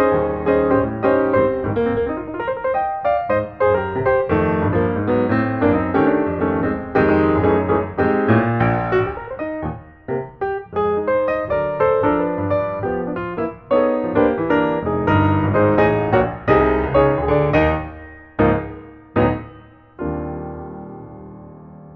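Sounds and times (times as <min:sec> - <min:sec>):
piano music: 0:00.0 - 0:21.9.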